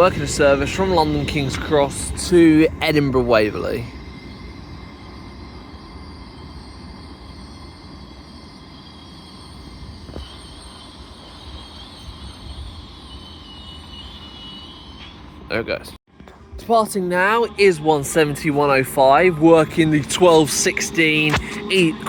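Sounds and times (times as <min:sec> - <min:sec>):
high squeal: 0:00.0 - 0:16.0, 0:16.8 - 0:22.0
train low rumble: 0:00.0 - 0:22.0.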